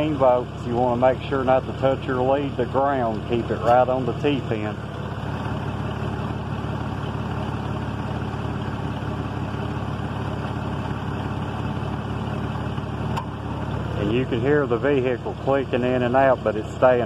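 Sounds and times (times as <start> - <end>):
van engine idling: 0.0 - 17.0.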